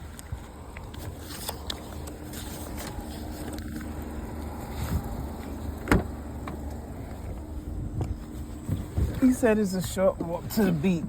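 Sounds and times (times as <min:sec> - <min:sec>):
engine and road rumble: 0:00.0 - 0:11.0.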